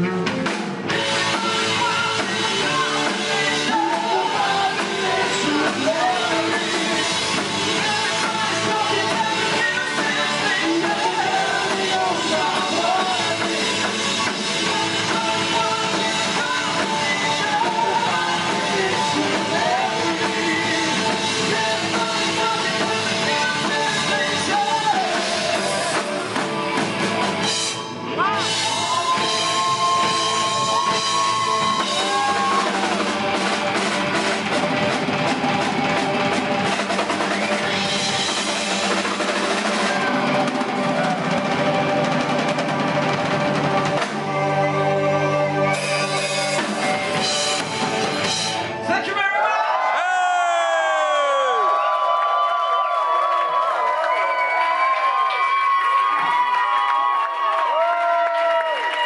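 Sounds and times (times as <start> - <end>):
live rock band playing: 0.0 - 49.1.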